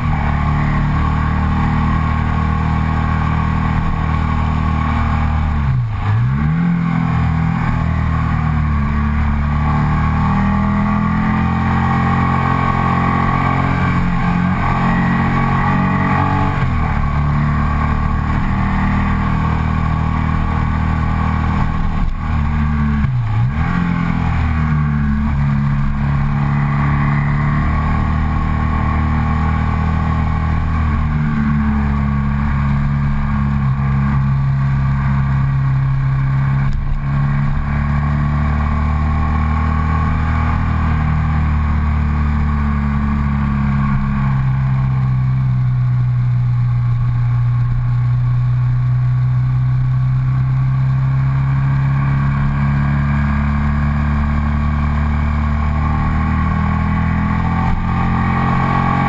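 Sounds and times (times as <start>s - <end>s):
motorcycle engine under load: 0.0s - 59.0s.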